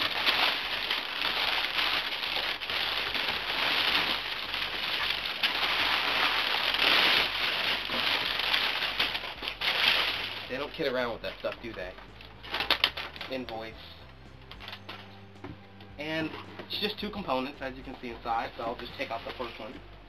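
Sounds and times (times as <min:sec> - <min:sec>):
packing paper crinkling: 0:00.0 - 0:13.8, 0:16.8 - 0:19.8.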